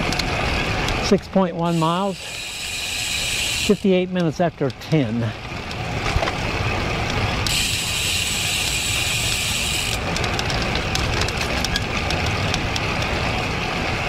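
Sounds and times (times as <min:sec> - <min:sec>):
road rumble: 0:00.0 - 0:14.0.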